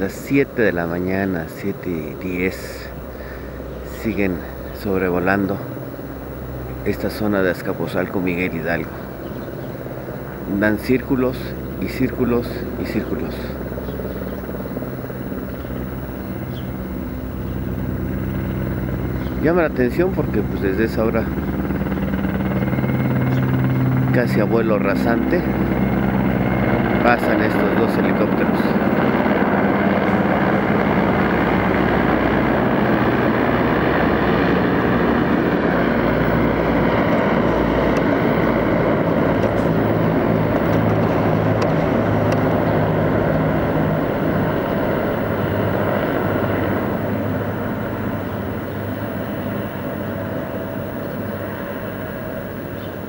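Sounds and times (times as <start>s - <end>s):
helicopters flying overhead: 0.0s - 53.0s.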